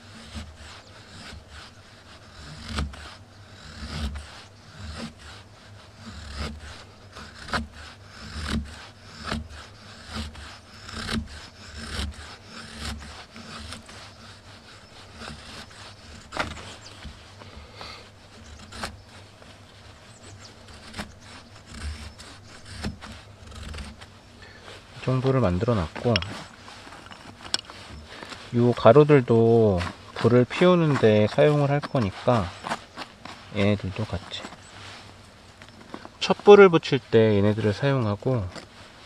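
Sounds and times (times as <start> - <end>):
knife scraping wood: 0.0 - 39.0.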